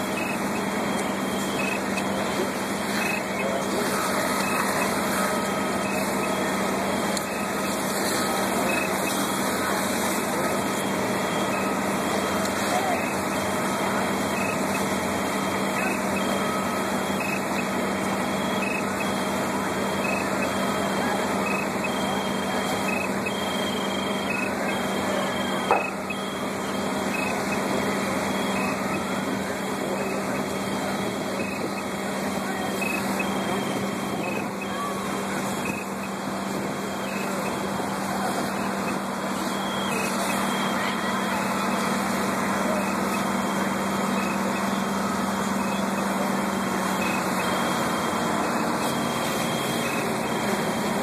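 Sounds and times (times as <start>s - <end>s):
fire truck engines droning: 0.0s - 51.0s.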